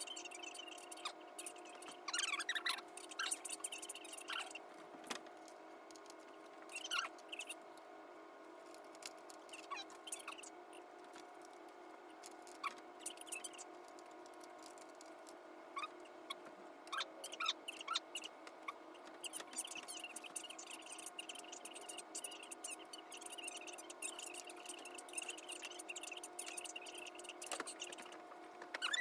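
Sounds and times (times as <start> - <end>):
high chirps and squeaks: 0.0 - 4.7, 6.1 - 7.6, 8.7 - 11.5, 12.2 - 15.1, 15.8 - 29.0
faint steady hum: 0.0 - 29.0.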